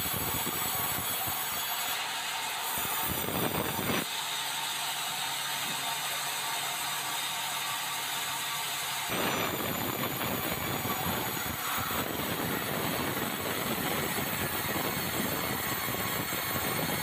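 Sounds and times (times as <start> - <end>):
band saw cutting log: 0.0 - 17.0.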